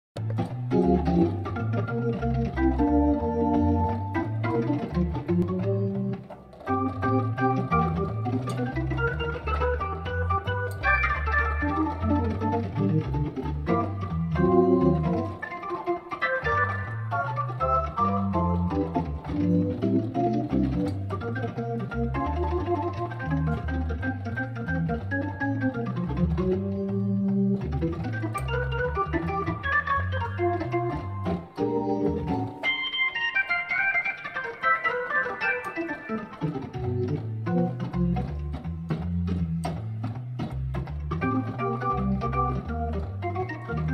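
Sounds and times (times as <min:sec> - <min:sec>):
tonewheel organ playing: 0:00.2 - 0:43.9.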